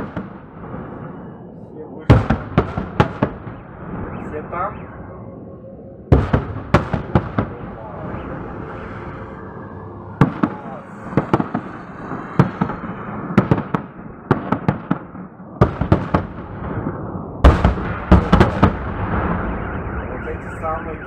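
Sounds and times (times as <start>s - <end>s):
fireworks bangs: 0.0s - 1.4s, 2.1s - 4.9s, 6.1s - 21.0s.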